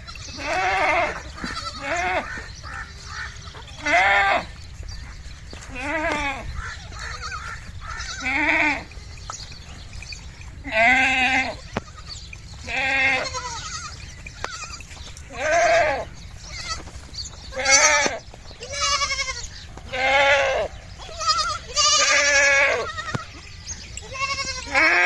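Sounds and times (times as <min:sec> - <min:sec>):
goat kids bleating: 0:00.0 - 0:04.8, 0:05.5 - 0:09.4, 0:10.2 - 0:25.0.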